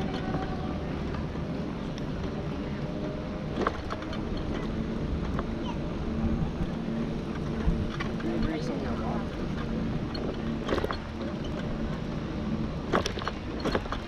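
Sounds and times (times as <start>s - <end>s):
mobility scooter rumble: 0.0s - 14.0s.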